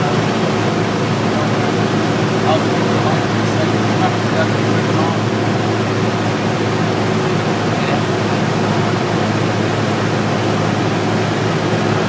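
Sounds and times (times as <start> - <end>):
airflow hum: 0.0 - 12.0
propeller plane engine drone: 0.0 - 12.0.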